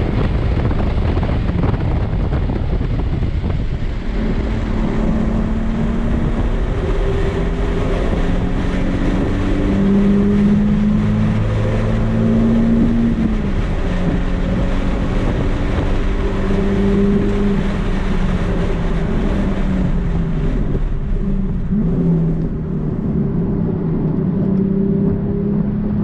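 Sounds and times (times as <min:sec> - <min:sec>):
car engine running hard: 0:00.0 - 0:26.0
wind and road rush: 0:00.0 - 0:26.0.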